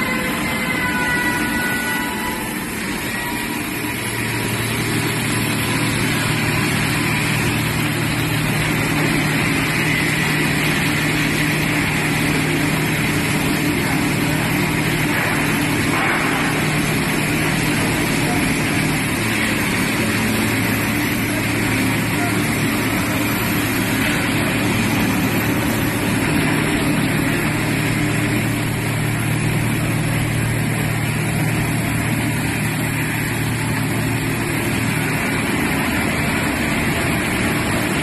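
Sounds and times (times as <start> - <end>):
sanding machine running: 0.0 - 38.0.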